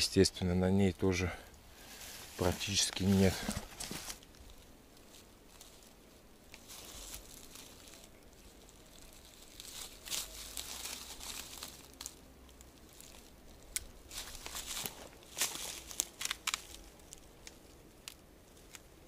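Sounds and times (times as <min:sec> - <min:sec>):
rustling and crackling handling: 0:01.5 - 0:19.0.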